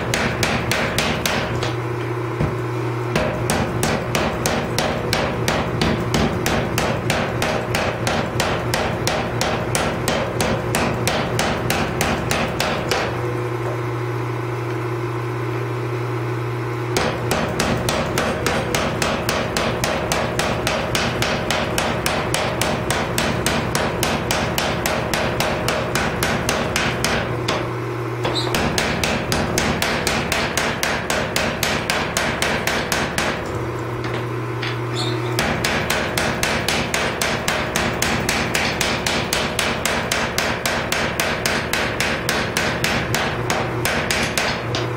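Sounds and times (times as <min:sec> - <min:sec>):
power hammer striking steel: 0:00.0 - 0:01.8, 0:03.1 - 0:13.2, 0:16.9 - 0:44.9
machine low hum: 0:00.0 - 0:44.9.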